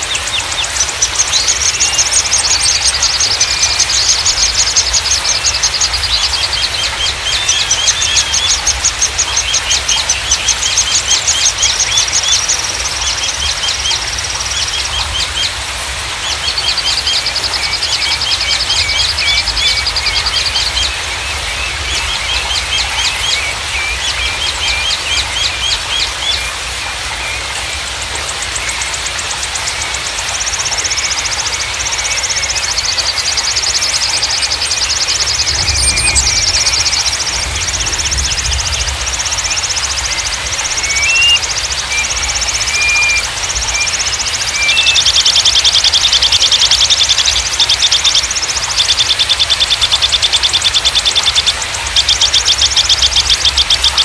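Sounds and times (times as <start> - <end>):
songbirds singing: 0.0 - 54.0
steady rushing background noise: 0.0 - 54.0.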